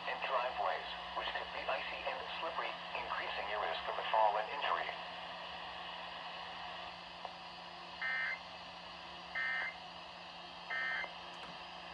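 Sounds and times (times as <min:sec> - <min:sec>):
low hum and hiss: 0:00.0 - 0:11.9.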